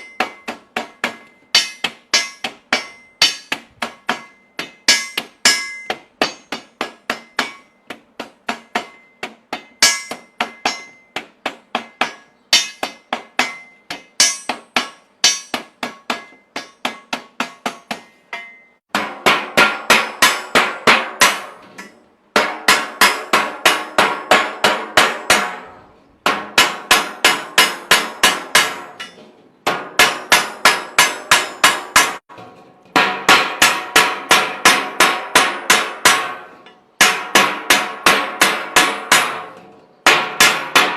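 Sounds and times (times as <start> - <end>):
hand hammer striking: 0.0 - 40.9.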